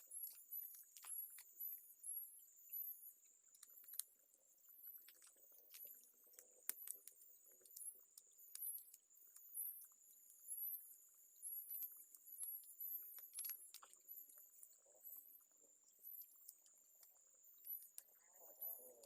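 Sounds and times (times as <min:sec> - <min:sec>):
thin steady high whine: 0:00.0 - 0:19.0.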